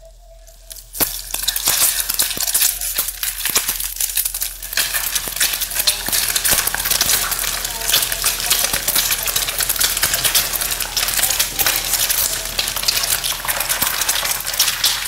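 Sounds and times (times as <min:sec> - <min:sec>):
eggs sizzling in hot oil: 0:00.1 - 0:15.0.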